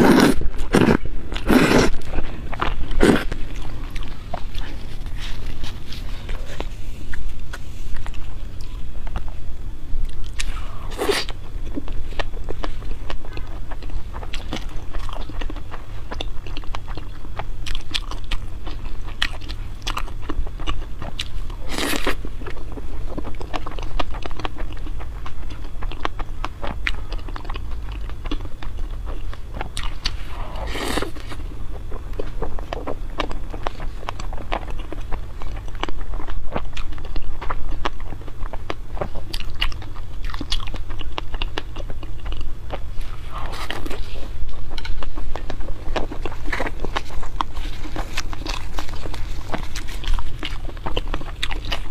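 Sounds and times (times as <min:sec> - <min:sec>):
chewing and biting food: 0:00.0 - 0:09.4, 0:10.0 - 0:51.9
steady low hum: 0:00.0 - 0:51.9.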